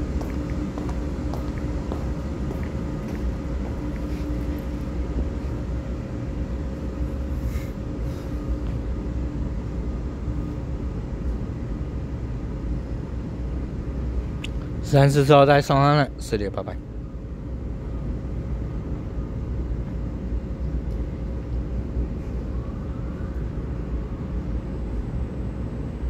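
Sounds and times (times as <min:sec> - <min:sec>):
faint hum: 0:00.0 - 0:26.0
train rumbling: 0:00.0 - 0:26.0.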